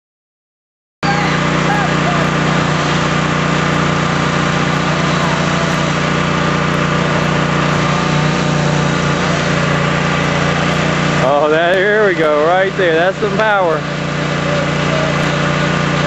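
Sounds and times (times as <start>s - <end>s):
engine running at high speed: 1.0s - 16.0s.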